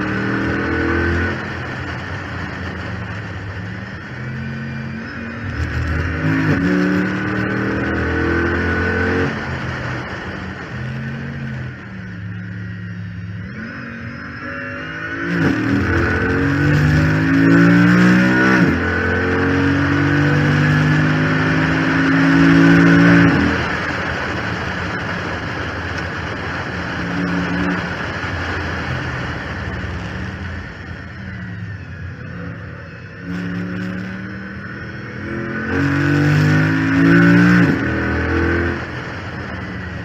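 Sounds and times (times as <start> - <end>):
car engine revving: 0.0 - 40.0
power steering pump whine: 0.0 - 40.0.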